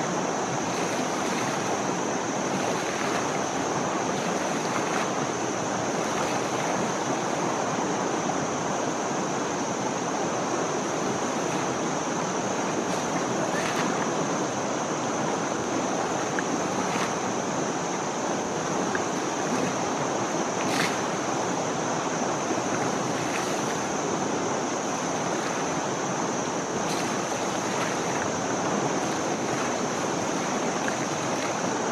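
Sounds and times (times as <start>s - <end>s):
sharp water splashes: 0.0s - 7.6s, 10.8s - 31.9s
river water rushing and splashing: 0.0s - 31.9s
steady high-pitched hum: 0.0s - 31.9s.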